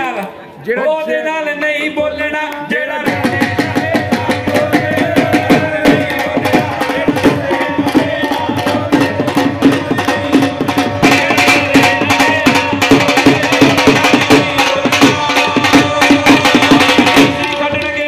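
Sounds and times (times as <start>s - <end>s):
fast hand drum beat: 3.0s - 18.0s.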